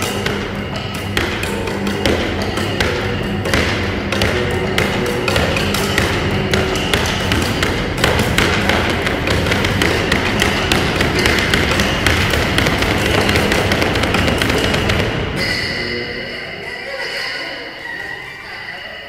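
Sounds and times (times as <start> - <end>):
cello tapped percussively: 0.0 - 15.9.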